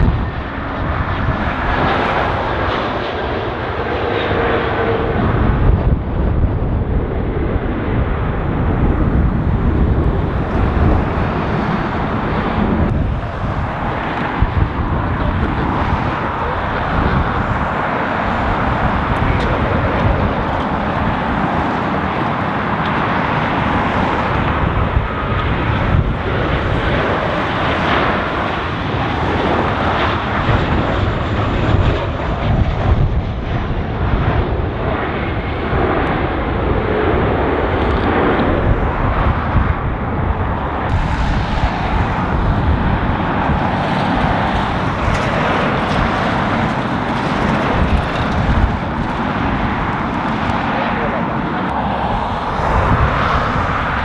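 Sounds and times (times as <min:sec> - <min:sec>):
jet engines running: 0:00.0 - 0:54.0
wind buffeting microphone: 0:00.0 - 0:54.0.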